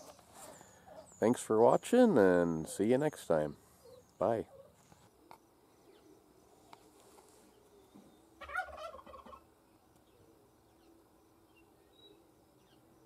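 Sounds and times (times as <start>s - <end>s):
faint steady background sound: 0.0s - 13.0s.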